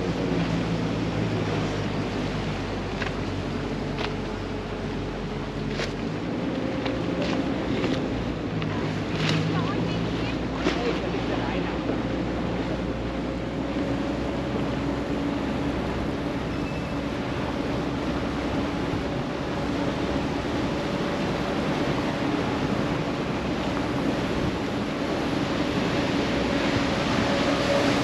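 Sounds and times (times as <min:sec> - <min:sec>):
boat engine humming: 0:00.0 - 0:28.0
water rushing along hull: 0:00.0 - 0:28.0.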